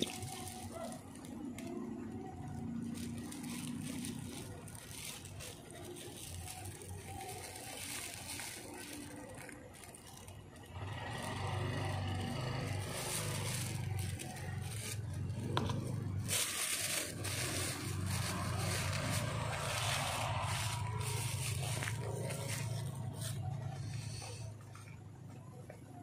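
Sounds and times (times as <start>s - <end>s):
plastic bags crinkling: 0.0s - 24.5s.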